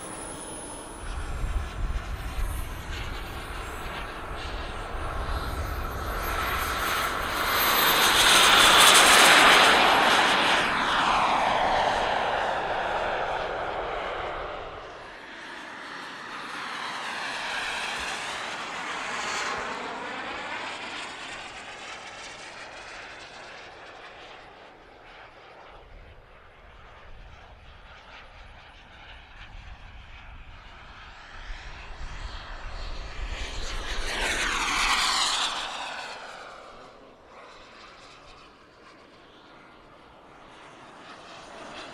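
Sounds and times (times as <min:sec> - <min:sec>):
model jet turbine whine: 0:00.0 - 0:41.9.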